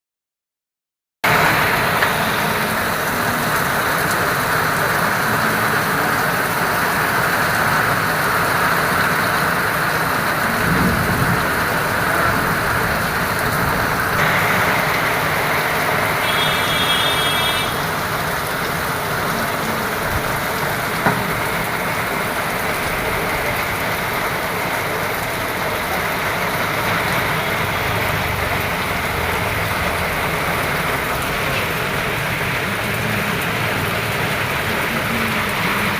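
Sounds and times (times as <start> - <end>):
heavy rain falling: 1.2 - 35.9.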